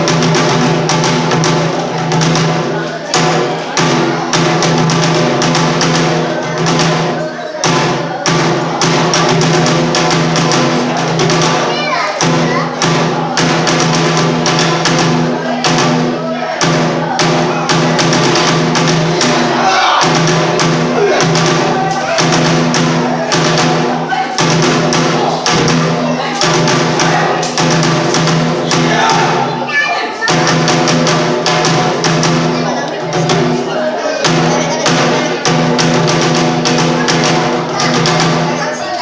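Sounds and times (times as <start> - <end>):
rapid drum strikes: 0.0 - 39.0.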